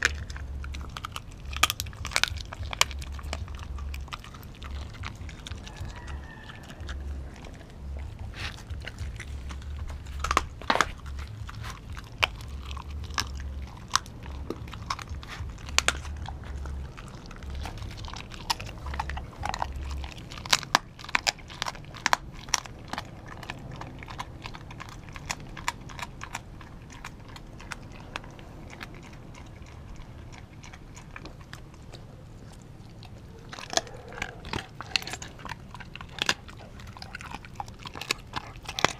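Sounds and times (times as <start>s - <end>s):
dog chewing and crunching meat: 0.0s - 38.9s.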